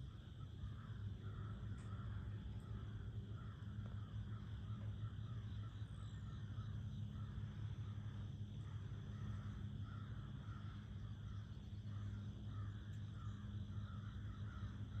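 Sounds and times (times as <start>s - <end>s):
bird calling: 0.1s - 15.0s.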